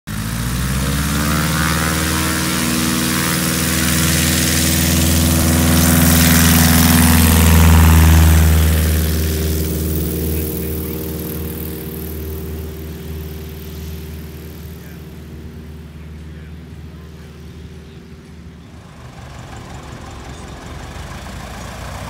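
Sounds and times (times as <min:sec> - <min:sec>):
propeller plane engine: 0:00.1 - 0:22.0.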